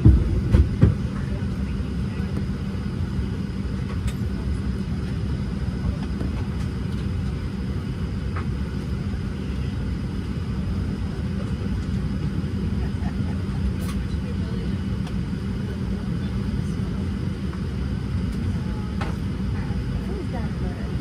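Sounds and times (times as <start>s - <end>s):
airplane cabin low rumble: 0.0s - 21.0s.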